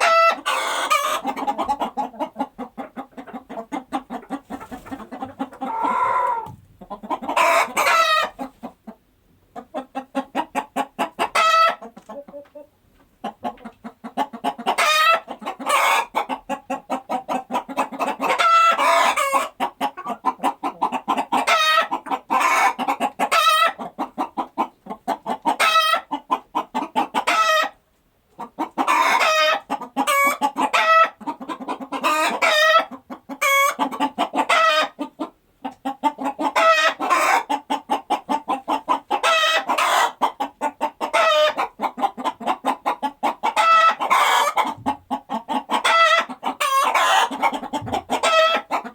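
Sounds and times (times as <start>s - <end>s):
chickens clucking and cackling: 0.0s - 48.9s.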